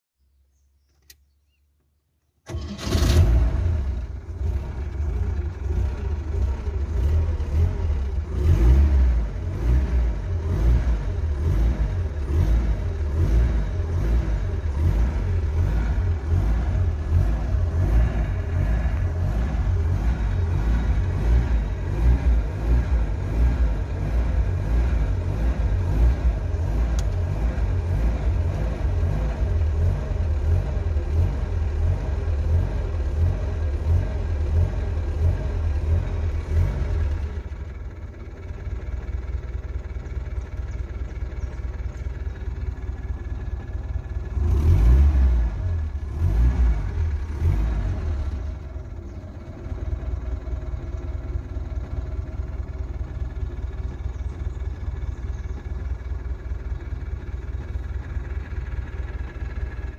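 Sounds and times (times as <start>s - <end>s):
car engine running: 2.5s - 59.9s.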